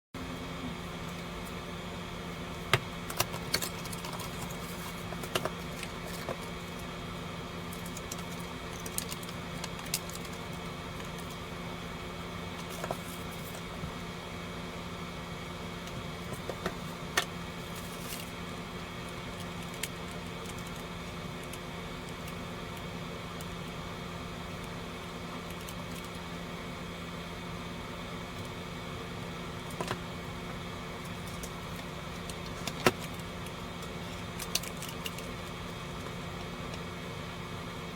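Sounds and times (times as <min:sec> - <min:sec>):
steady electrical hum: 0:00.2 - 0:37.9.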